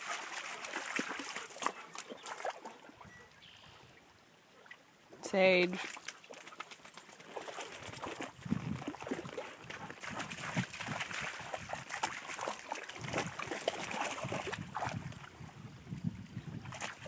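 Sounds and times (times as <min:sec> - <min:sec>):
horse hooves splashing in mud: 0:00.0 - 0:03.0, 0:05.6 - 0:15.5, 0:16.2 - 0:17.0.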